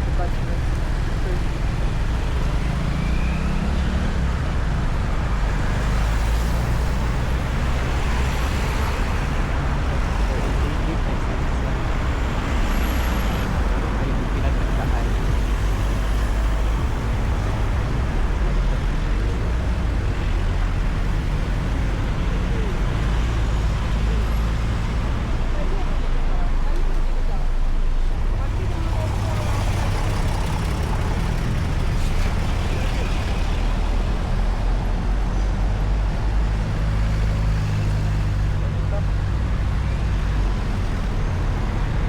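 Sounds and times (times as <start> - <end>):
faint voices: 0.0 - 42.0
low rumble of street traffic: 0.0 - 42.0
vehicle engine humming: 0.0 - 42.0.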